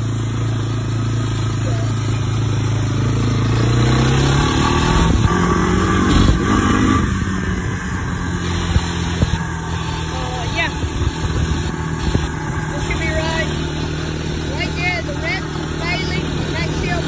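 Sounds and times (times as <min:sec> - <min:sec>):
atv engine idling and revving: 0:00.0 - 0:17.0.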